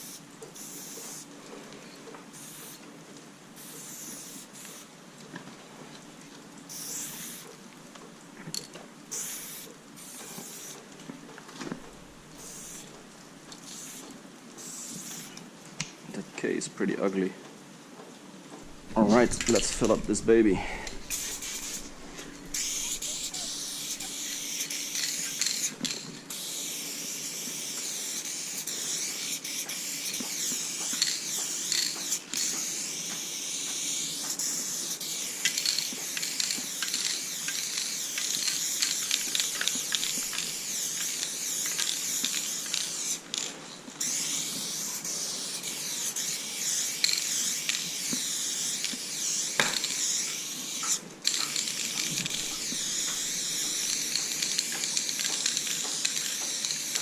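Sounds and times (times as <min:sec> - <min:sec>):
spray paint can hissing: 0:00.0 - 0:01.3, 0:02.3 - 0:02.8, 0:03.6 - 0:04.9, 0:06.7 - 0:07.5, 0:09.1 - 0:10.9, 0:11.7 - 0:15.4, 0:18.7 - 0:57.0.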